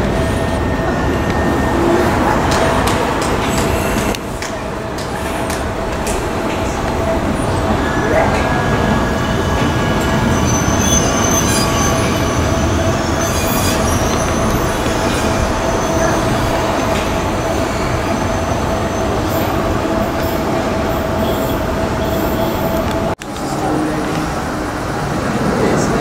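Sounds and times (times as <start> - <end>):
steady train whine: 0.0 - 26.0
train rumbling on rails: 0.0 - 26.0.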